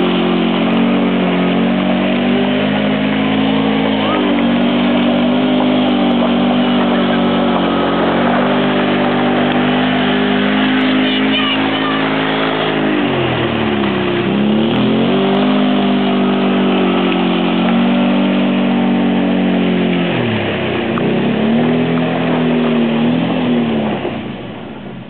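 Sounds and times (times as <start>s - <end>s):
vehicle engine revving: 0.0s - 25.0s.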